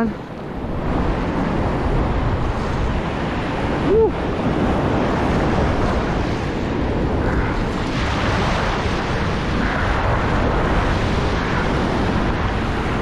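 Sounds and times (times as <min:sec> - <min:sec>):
wind buffeting microphone: 0:00.0 - 0:13.0
surf breaking: 0:00.7 - 0:13.0.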